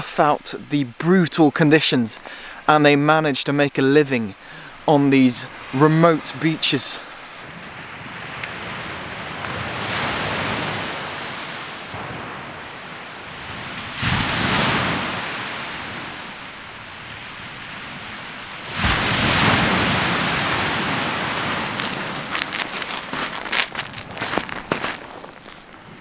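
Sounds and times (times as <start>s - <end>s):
sea waves breaking on shore: 4.0s - 26.0s.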